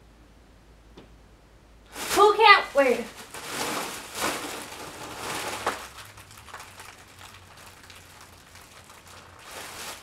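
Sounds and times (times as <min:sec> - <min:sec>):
foil balloon crinkling: 0:01.9 - 0:10.0.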